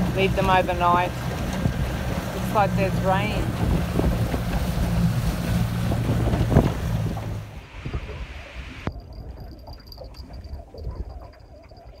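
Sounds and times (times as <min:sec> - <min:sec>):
boat motor hum: 0:00.0 - 0:12.0
wind buffeting microphone: 0:00.0 - 0:12.0.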